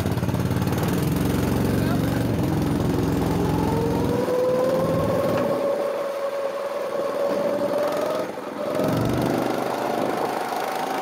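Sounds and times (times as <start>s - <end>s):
go-kart engine revving: 0.0s - 11.0s.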